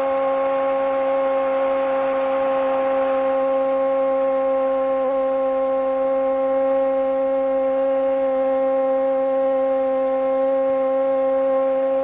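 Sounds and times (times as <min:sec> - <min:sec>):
steady droning tone: 0:00.0 - 0:12.0.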